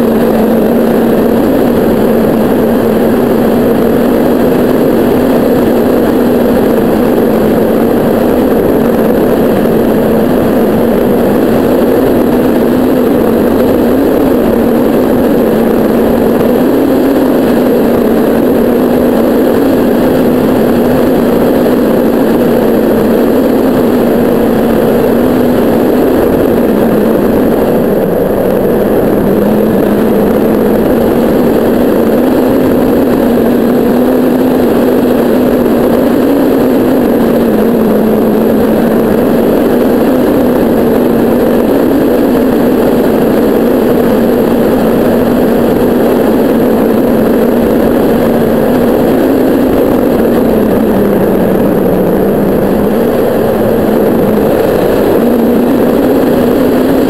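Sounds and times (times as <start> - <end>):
low wavering hum: 0.0 - 57.0
wind noise: 0.0 - 57.0.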